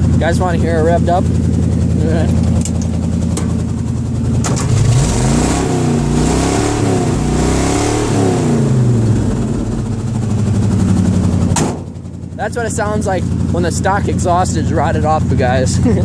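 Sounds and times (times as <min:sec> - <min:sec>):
loud engine idling and revving: 0:00.0 - 0:16.0.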